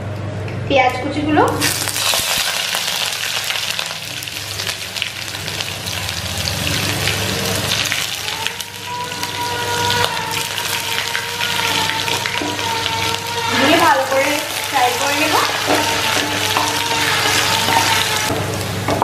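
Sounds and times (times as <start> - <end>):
onions sizzling in oil: 1.6 - 19.0.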